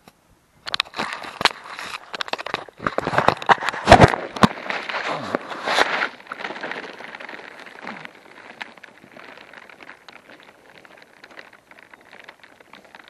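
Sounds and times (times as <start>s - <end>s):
grass brushing against microphone: 0.9s - 13.0s.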